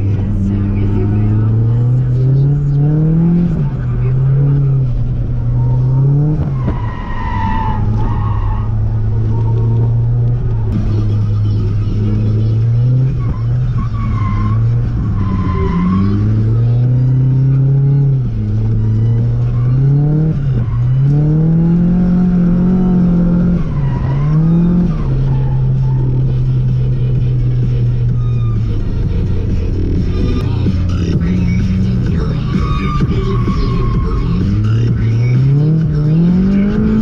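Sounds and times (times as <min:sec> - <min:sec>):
car engine revving hard: 0:00.0 - 0:06.7, 0:08.6 - 0:28.0, 0:29.2 - 0:37.0.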